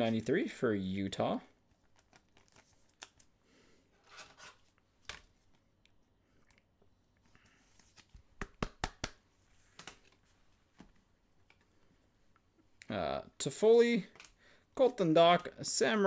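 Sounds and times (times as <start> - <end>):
cards and plastic sleeves rustling: 0.0 - 16.0.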